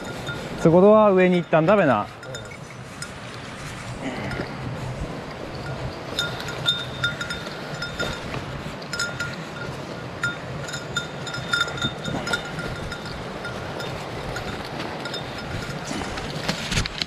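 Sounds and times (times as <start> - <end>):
small bell jingling: 0.0 - 3.3, 5.4 - 15.9
mountain stream rushing: 0.0 - 17.0.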